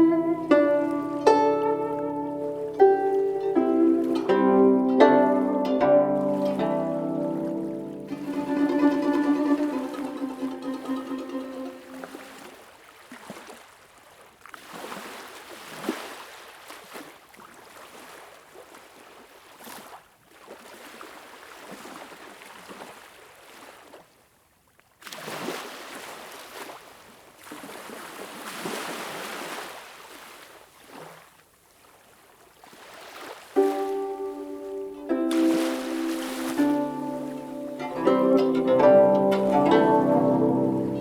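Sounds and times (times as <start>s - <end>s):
waves washing in and drawing back: 0.0s - 13.8s, 14.4s - 19.8s, 25.1s - 31.4s, 32.0s - 41.0s.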